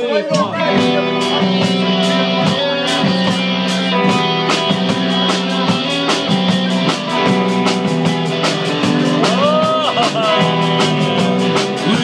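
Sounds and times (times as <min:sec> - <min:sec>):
bass guitar: 0:00.0 - 0:12.0
electric guitars: 0:00.0 - 0:12.0
steady drum beat: 0:00.0 - 0:12.0.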